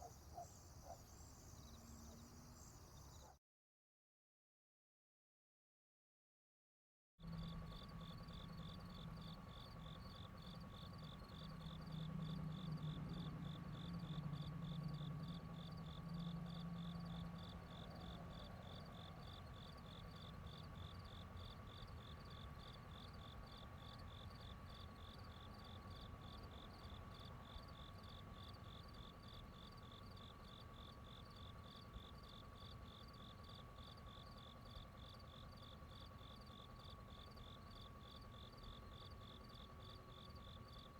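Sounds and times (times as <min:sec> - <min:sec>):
crickets chirping: 0:00.0 - 0:03.3, 0:07.3 - 0:40.9.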